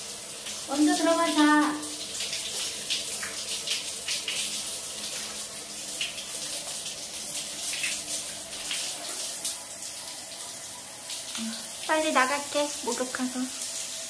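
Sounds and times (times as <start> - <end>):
shower water spraying on tiles: 0.0 - 14.0.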